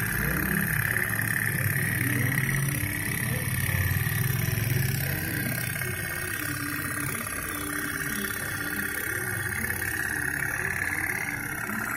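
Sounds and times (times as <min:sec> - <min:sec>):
toy steamboats putt-putting: 0:00.0 - 0:11.9.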